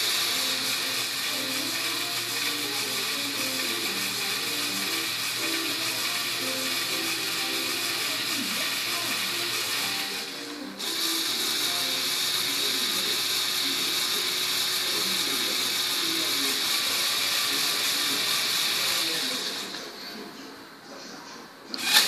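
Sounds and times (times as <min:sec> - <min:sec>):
toy motor and gears whirring: 0:00.0 - 0:19.9, 0:21.7 - 0:22.0.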